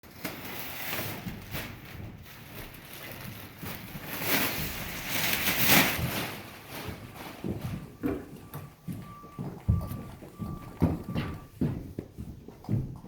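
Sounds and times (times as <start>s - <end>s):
insulation rustling and brushing: 0.1s - 11.6s.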